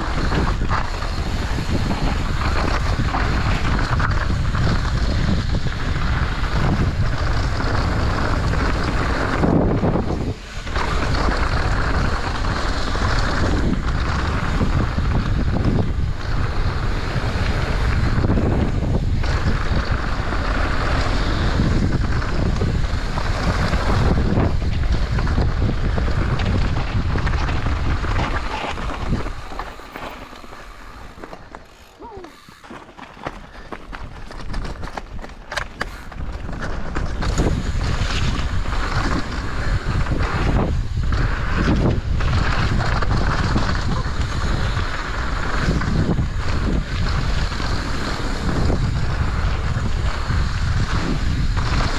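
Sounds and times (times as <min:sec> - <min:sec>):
bike on trail: 0:00.0 - 0:51.9
wind rushing over microphone: 0:00.0 - 0:51.9.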